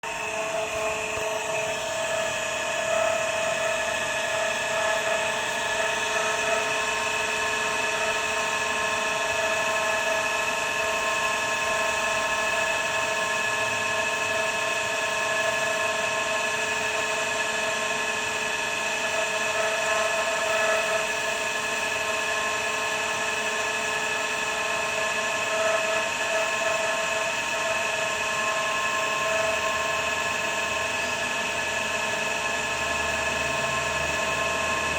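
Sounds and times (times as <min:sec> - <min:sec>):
pump motor high-pitched whine: 0:00.0 - 0:34.9.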